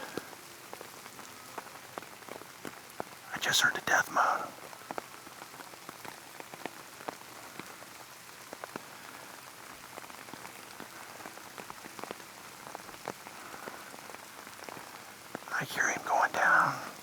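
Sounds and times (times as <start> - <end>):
raindrops tapping near microphone: 0.0 - 17.0
steady rain falling: 0.0 - 17.0.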